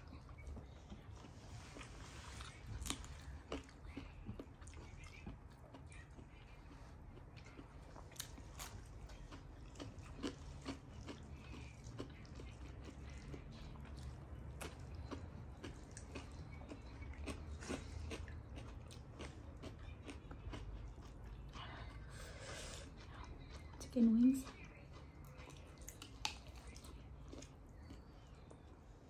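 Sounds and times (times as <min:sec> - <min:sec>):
person chewing crisp cucumber: 0:00.0 - 0:29.0.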